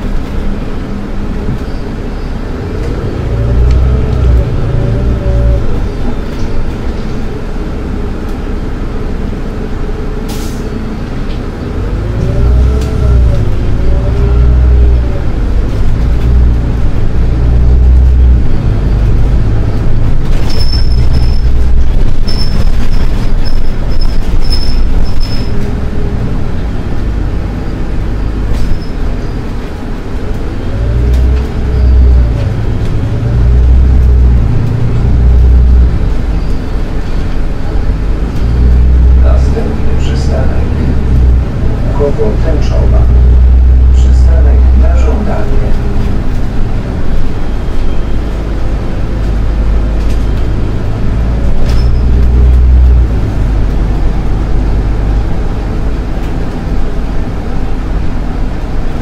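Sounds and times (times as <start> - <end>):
bus engine rumble and whine: 0.0 - 59.0.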